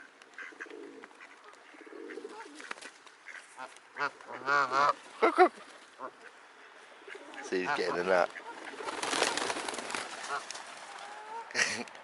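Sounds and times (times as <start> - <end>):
birds calling: 0.0 - 11.6.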